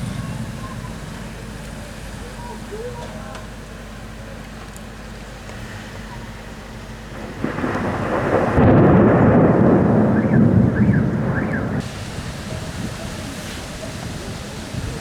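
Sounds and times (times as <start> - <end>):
thunder rumble: 0.0 - 4.3, 6.7 - 15.0
heavy rain hissing: 0.0 - 15.0.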